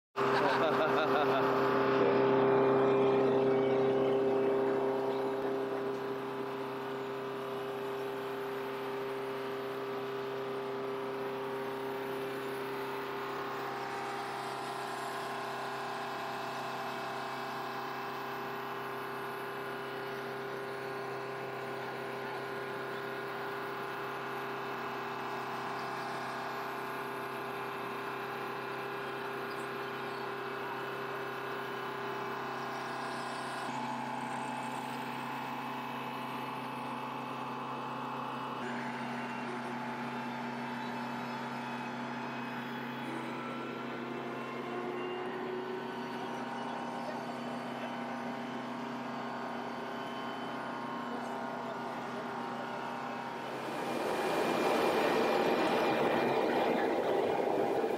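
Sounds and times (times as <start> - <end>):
jet turbine whine: 0.2 - 57.9.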